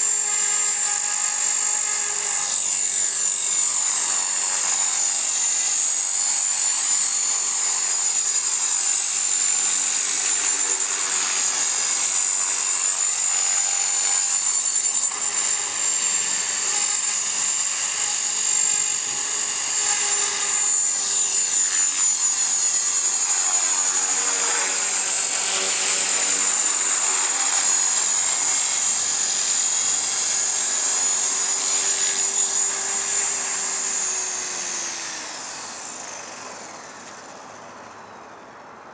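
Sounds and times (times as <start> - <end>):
model helicopter rotor whine: 0.0 - 38.9.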